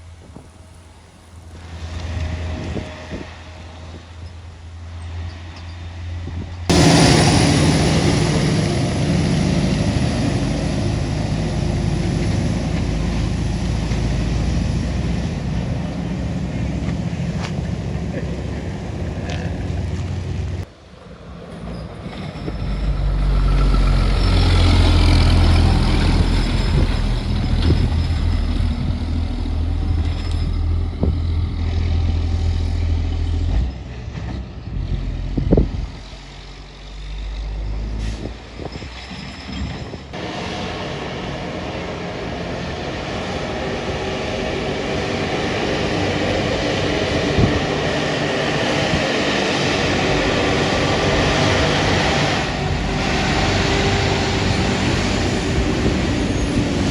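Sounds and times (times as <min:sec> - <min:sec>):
heavy truck engine rumbling: 0:00.0 - 0:56.9.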